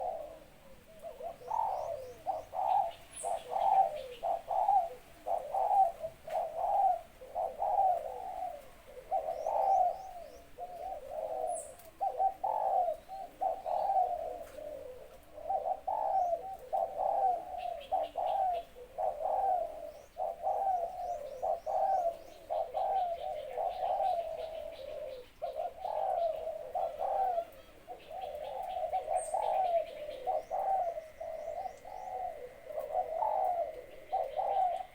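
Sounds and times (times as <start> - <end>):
dove cooing: 0.0 - 34.9
small birds chirping: 0.0 - 34.9.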